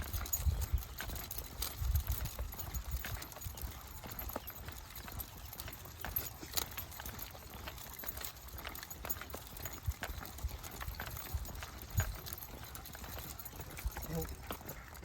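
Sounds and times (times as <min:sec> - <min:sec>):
footsteps crunching on trail: 0:00.0 - 0:15.0.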